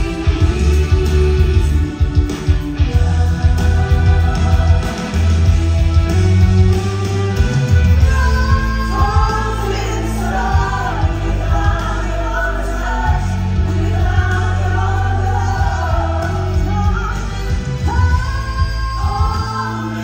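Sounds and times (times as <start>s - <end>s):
backing track with heavy bass: 0.0s - 20.0s.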